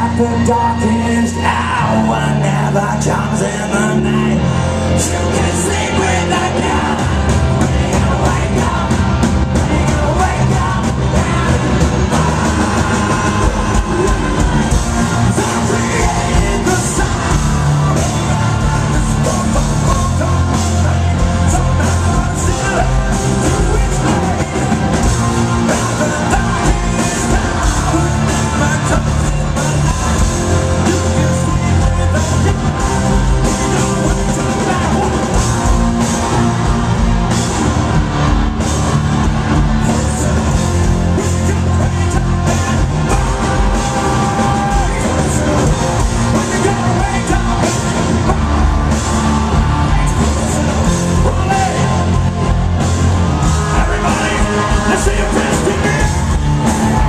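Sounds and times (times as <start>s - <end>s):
bass guitar: 0.0s - 57.0s
distorted guitars: 0.0s - 57.0s
singing and yelled vocals: 0.0s - 57.0s
pounding drums: 5.0s - 57.0s.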